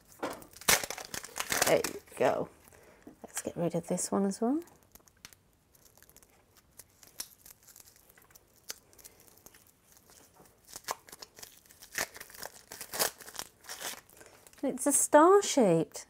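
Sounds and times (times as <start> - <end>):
plastic film crinkling: 0.0 - 14.6.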